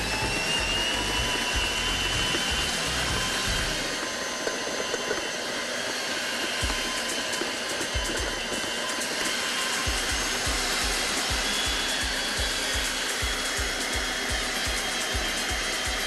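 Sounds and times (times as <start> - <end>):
electric mixer motor whining: 0.0 - 16.0.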